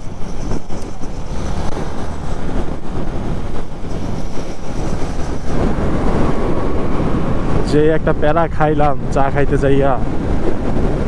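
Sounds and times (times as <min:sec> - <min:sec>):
road noise: 0:00.0 - 0:11.0
wind noise: 0:00.0 - 0:11.0.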